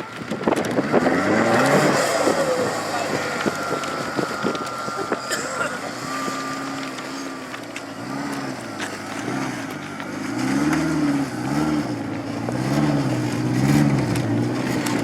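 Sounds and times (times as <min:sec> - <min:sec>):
engine revving in blips: 0:00.0 - 0:15.0.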